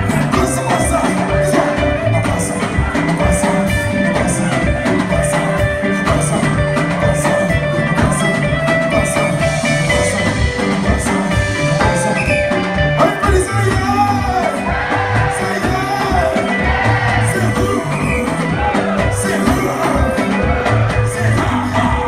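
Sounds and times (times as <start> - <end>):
bass guitar: 0.0 - 22.0
drum kit beat: 0.0 - 22.0
electric guitar lines: 0.0 - 22.0.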